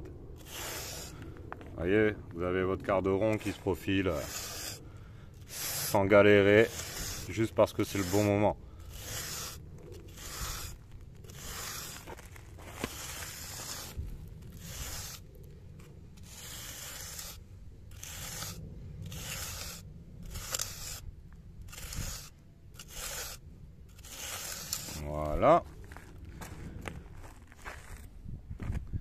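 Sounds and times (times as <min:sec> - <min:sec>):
steel tool scraping concrete: 0:00.4 - 0:01.2, 0:02.8 - 0:25.6.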